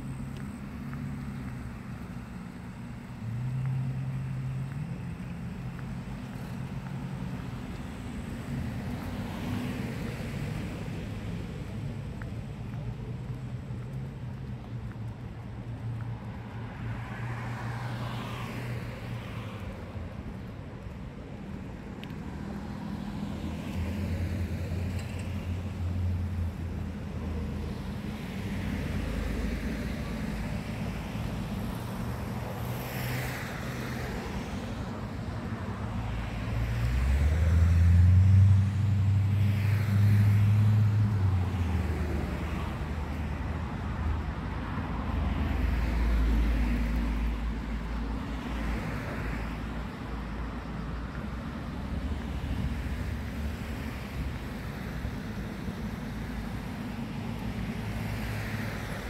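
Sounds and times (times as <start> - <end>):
cars passing: 0.0 - 59.0
vehicle with deep engine drone: 0.0 - 59.0.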